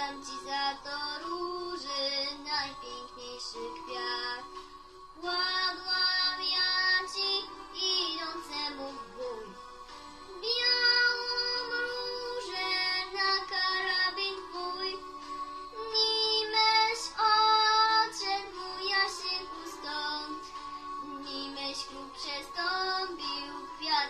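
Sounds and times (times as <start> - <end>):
girl singing: 0.0 - 4.6, 5.2 - 9.6, 10.3 - 24.0
instrumental backing track: 0.0 - 24.0.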